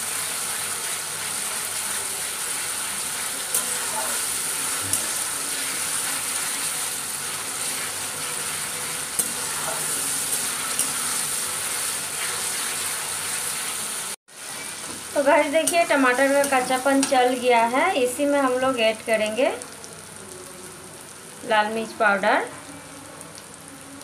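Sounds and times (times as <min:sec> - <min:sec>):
onions frying in oil: 0:00.0 - 0:24.0.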